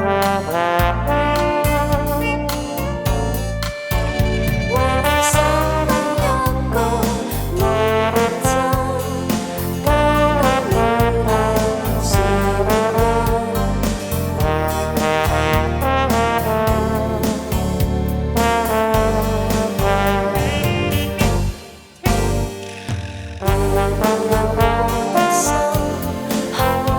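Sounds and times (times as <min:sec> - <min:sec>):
bass: 0:00.0 - 0:26.9
brass-like lead melody: 0:00.0 - 0:26.9
drum beat: 0:00.3 - 0:26.9.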